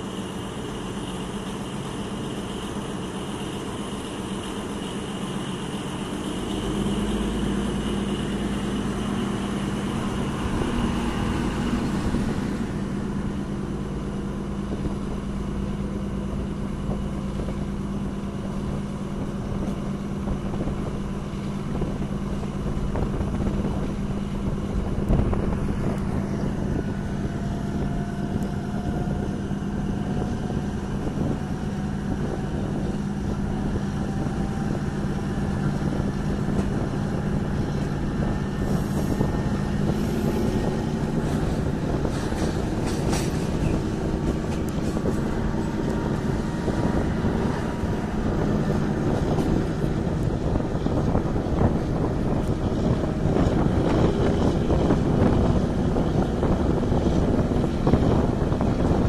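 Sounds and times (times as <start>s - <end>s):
locomotive drone: 0.0s - 59.0s
train wheels rumbling on track: 0.0s - 59.0s.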